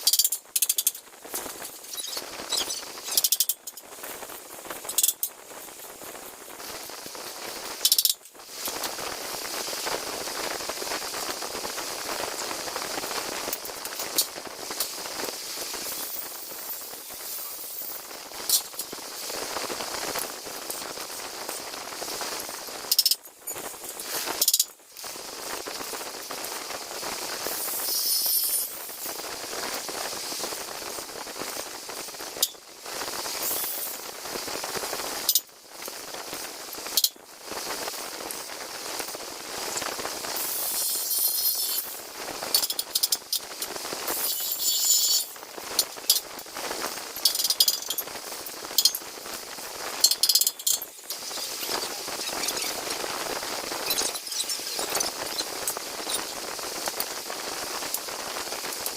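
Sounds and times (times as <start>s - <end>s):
crackling hiss of metalwork: 0.0s - 58.9s.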